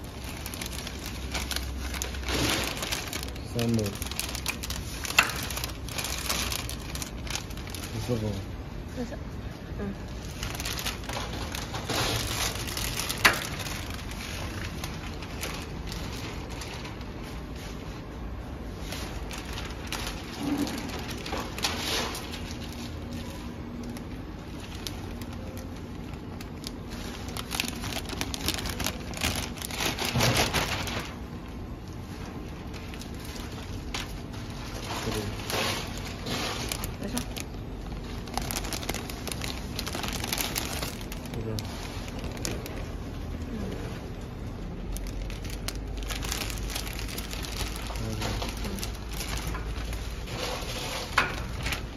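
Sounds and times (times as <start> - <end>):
plastic film snapping: 0.0 - 8.4, 10.2 - 17.2, 18.8 - 31.3, 32.6 - 43.0, 44.8 - 51.9
plastic film crinkling: 0.0 - 51.9.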